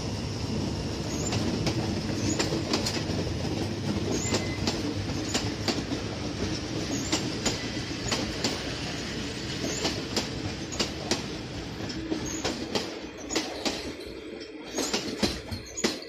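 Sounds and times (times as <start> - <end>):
train coaches rumbling on rails: 0.0 - 16.0
wheels clacking over rail joints: 1.0 - 16.0.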